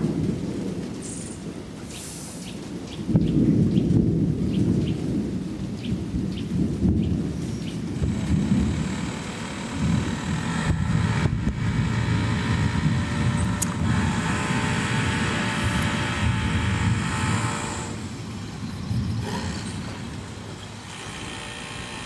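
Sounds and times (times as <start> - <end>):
rolling thunder: 0.0 - 20.6
hiss of storm noise: 0.0 - 22.0.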